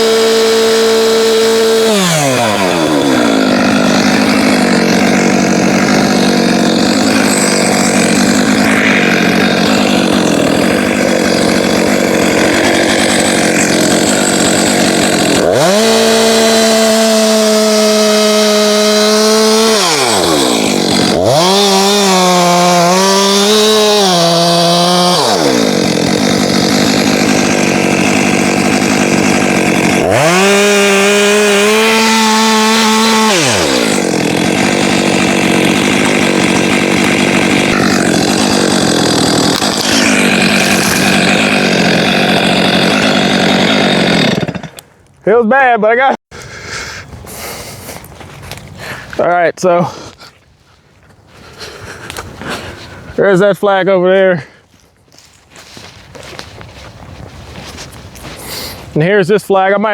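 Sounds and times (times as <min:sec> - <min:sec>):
chainsaw cutting wood: 0:00.0 - 0:45.1, 0:51.4 - 0:59.1.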